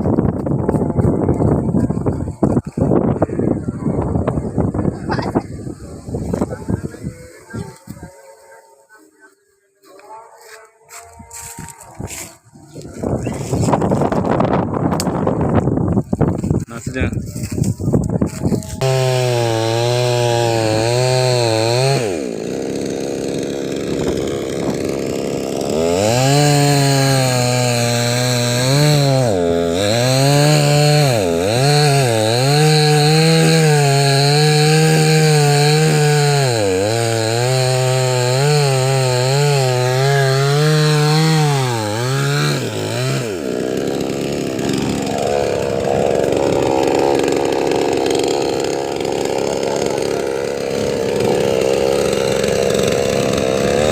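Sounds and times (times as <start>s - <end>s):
chainsaw cutting wood: 0.0s - 3.3s, 4.0s - 9.0s, 9.8s - 53.9s.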